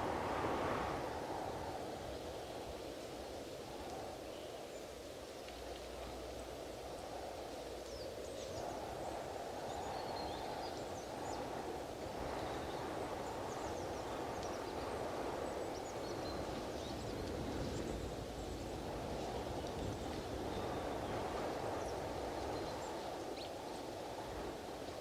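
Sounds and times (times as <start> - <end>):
wind blowing: 0.0 - 25.0.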